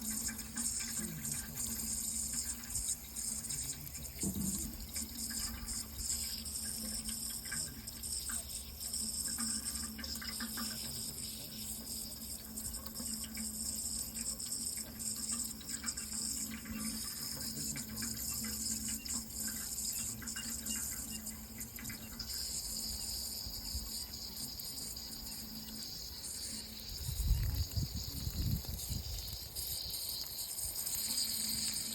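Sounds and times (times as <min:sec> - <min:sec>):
running water: 0:00.0 - 0:31.9.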